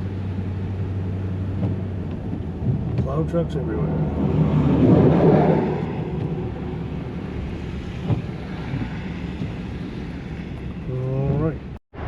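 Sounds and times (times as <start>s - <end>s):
vehicle engine and tyre hum: 0.0s - 12.0s.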